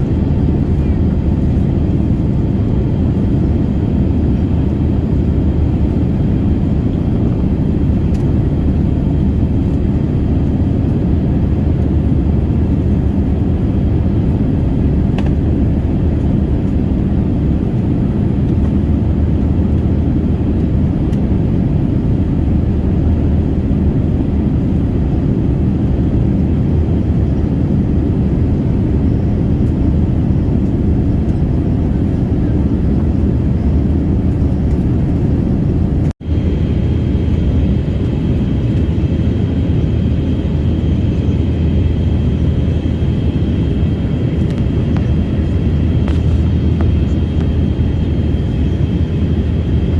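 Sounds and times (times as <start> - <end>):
airliner cabin engine roar: 0.0 - 49.9.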